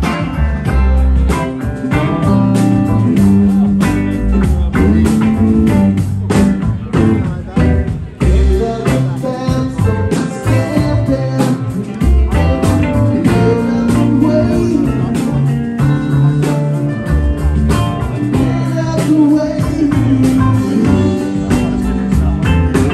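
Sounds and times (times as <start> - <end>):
bass guitar: 0.0 - 22.9
drum kit beat: 0.0 - 22.9
electric guitars: 0.0 - 22.9.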